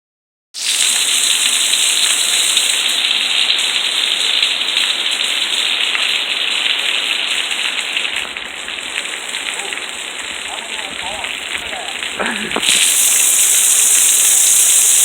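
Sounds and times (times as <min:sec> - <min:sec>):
heavy rain pouring: 0:00.6 - 0:15.0.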